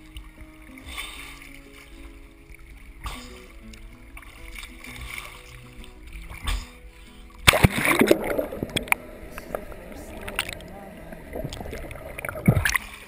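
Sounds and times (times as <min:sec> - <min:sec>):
quiet background music: 0:00.0 - 0:13.0
water splashing and sloshing: 0:00.0 - 0:13.0.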